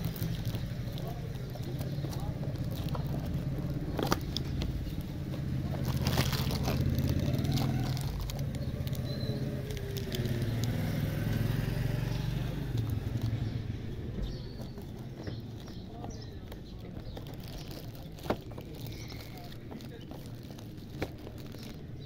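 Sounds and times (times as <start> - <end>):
low engine rumble: 0.0 - 22.0
plastic wrappers crinkling: 0.0 - 22.0.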